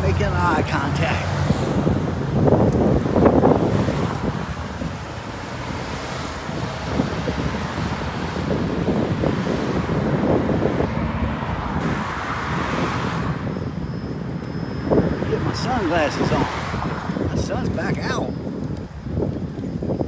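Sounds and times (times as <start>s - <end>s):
vehicle passing: 0.0s - 18.3s
road traffic noise: 0.0s - 20.0s
wind buffeting microphone: 0.0s - 20.0s.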